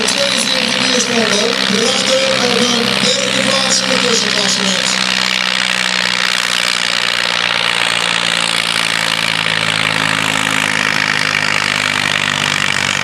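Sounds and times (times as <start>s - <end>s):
tractor diesel engine at full load: 0.0s - 13.0s.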